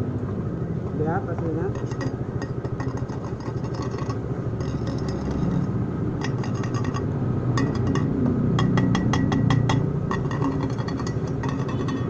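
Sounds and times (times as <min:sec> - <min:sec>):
low machine rumble: 0:00.0 - 0:12.0
metal pipes clicking and knocking: 0:00.8 - 0:12.0.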